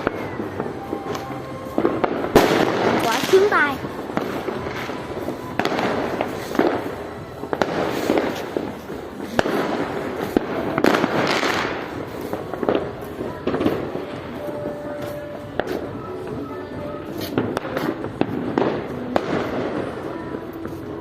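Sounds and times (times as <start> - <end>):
firework bangs: 0.0 - 21.0
fireworks rumbling and crackling: 0.0 - 21.0.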